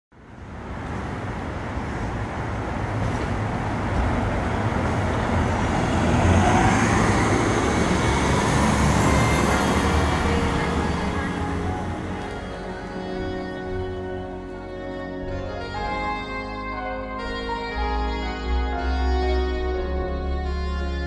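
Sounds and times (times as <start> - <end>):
vehicle engines rumbling: 0.2 - 21.0.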